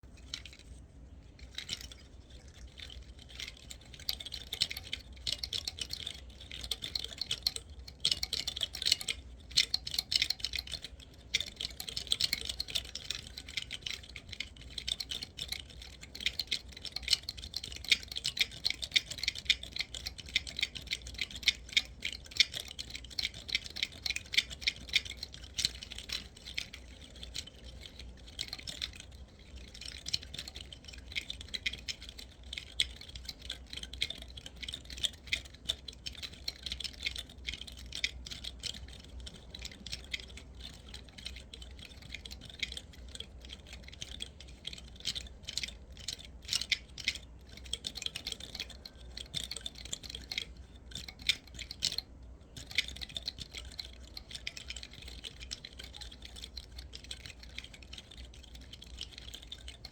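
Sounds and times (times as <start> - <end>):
pinecone scales clicking and rattling: 0.0 - 59.9.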